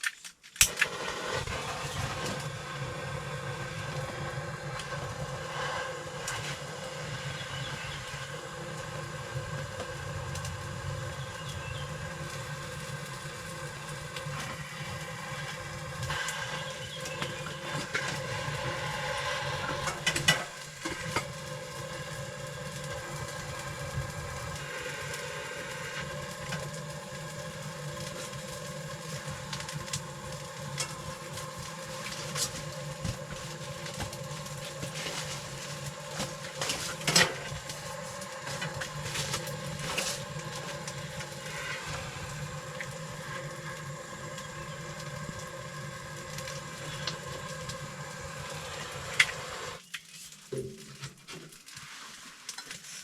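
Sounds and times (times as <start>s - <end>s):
fire crackling: 0.0s - 53.0s
steady low hum: 0.9s - 49.8s.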